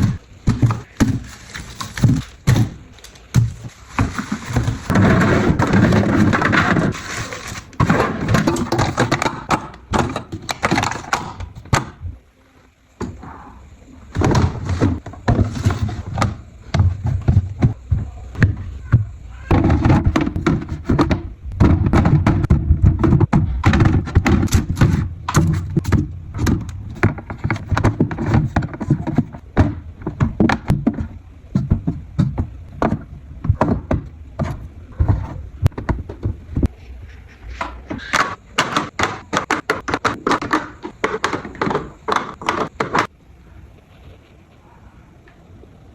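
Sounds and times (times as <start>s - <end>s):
household items clattering: 0.0s - 12.0s, 14.1s - 36.8s, 37.6s - 43.1s.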